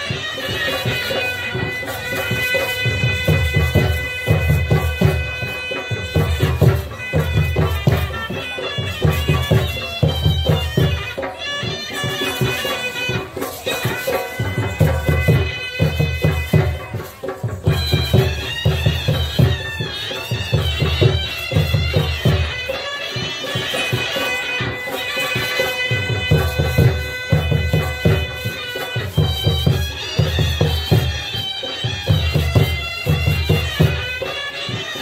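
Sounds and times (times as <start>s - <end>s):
double-reed pipe melody: 0.0s - 35.0s
heavy drumming: 0.0s - 35.0s.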